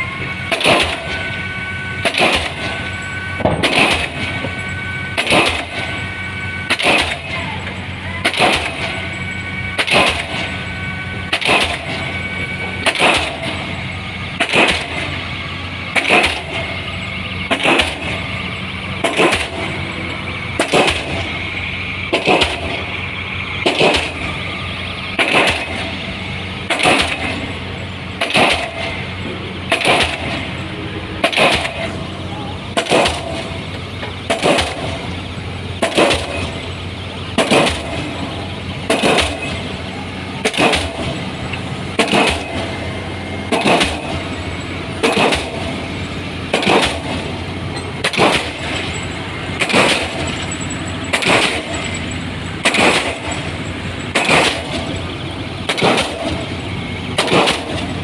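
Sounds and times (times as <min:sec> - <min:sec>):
low engine hum: 0:00.0 - 0:58.0
pile hammer heavy blows: 0:00.4 - 0:01.4, 0:02.0 - 0:15.3, 0:15.9 - 0:42.8, 0:43.4 - 0:58.0.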